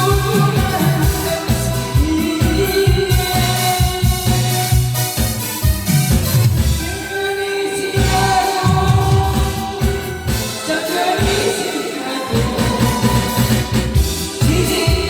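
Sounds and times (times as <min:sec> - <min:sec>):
woman singing: 0:00.0 - 0:04.6, 0:06.8 - 0:15.0
backing track with pulsing bass: 0:00.0 - 0:07.2, 0:08.0 - 0:11.7, 0:12.3 - 0:15.0.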